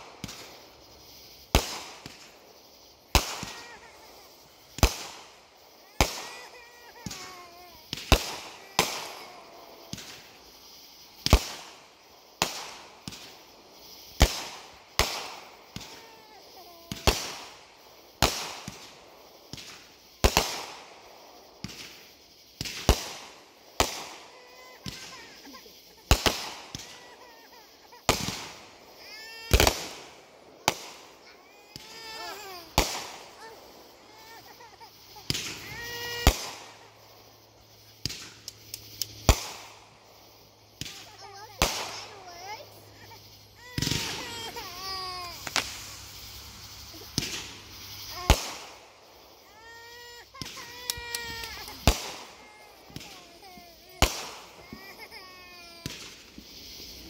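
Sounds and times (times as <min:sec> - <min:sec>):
fireworks banging with echo: 0:00.0 - 0:57.0.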